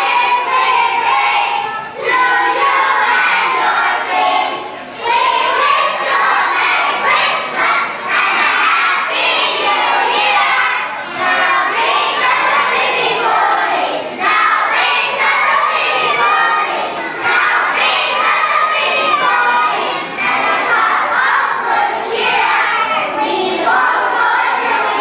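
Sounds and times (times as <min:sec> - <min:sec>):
young children singing loudly: 0:00.0 - 0:25.0.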